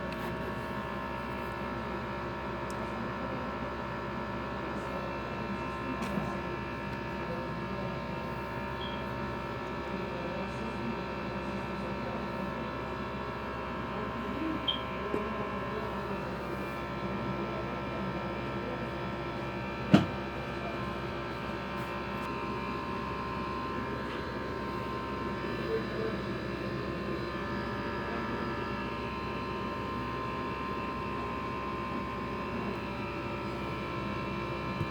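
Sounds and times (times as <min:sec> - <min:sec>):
steady mechanical hum: 0:00.0 - 0:34.9.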